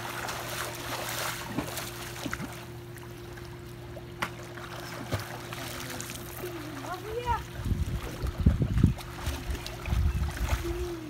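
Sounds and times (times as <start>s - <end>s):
gentle water lapping: 0.0s - 11.0s
pool water splashing: 0.0s - 11.0s.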